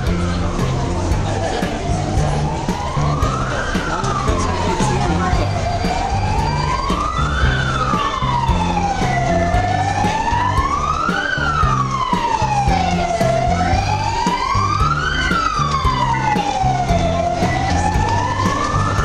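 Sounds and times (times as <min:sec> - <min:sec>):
low pulsing rumble: 0:00.0 - 0:19.0
wailing siren: 0:00.0 - 0:19.0.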